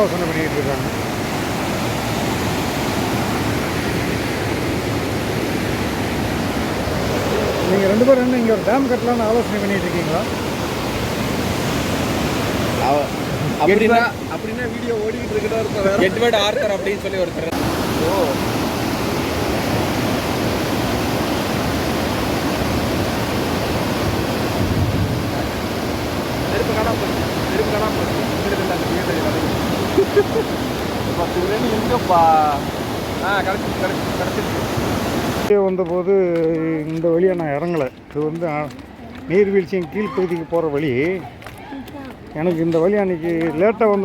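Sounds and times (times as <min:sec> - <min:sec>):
river water rushing over rocks: 0:00.0 - 0:35.5.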